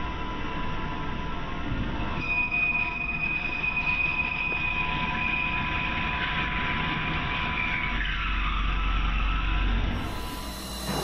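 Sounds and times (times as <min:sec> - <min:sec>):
mill drilling steel squeal: 0:02.2 - 0:11.0.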